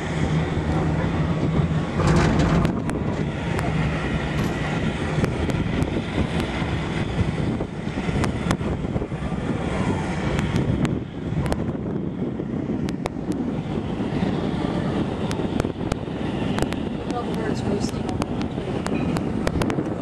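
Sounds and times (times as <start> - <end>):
gondola ride rumble: 0.0 - 20.0.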